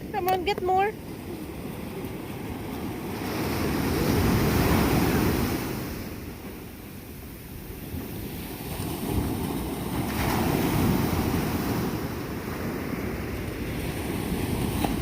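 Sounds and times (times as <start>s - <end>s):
ocean surf on beach: 0.0s - 15.0s
wind rumbling on microphone: 0.0s - 15.0s.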